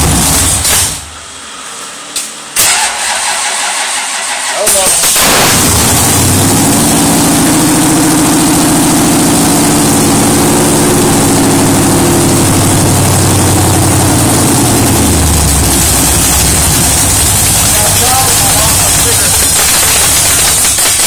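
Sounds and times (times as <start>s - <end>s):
car engine idling: 2.6s - 21.0s.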